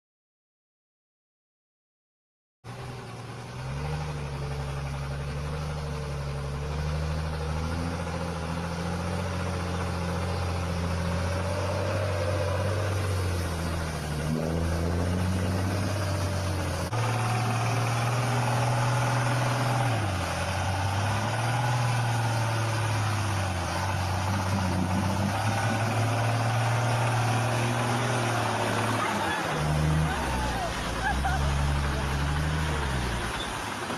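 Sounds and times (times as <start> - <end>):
heavy diesel truck engine labouring: 2.7 - 33.9.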